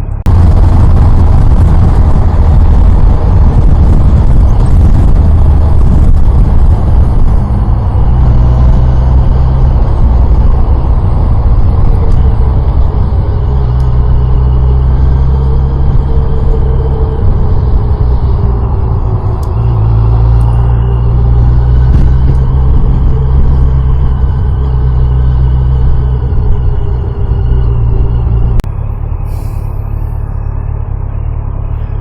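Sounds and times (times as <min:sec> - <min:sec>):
motorcycle engine running: 0:00.0 - 0:28.6
wind noise on microphone: 0:00.0 - 0:30.0.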